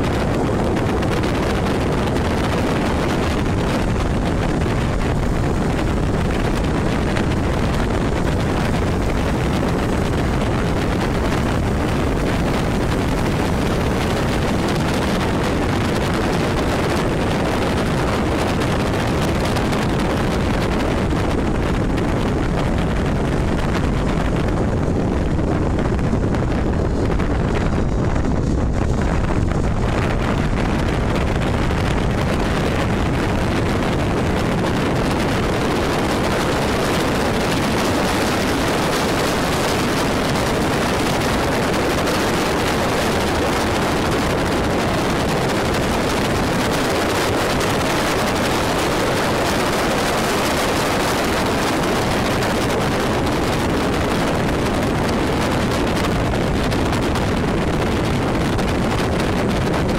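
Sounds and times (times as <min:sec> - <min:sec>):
road noise: 0:00.0 - 0:59.9
wind rushing over microphone: 0:00.0 - 0:59.9.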